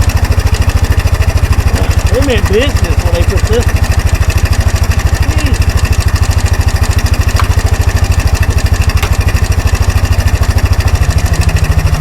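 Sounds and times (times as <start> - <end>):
engine idling putt-putt: 0.0 - 12.0.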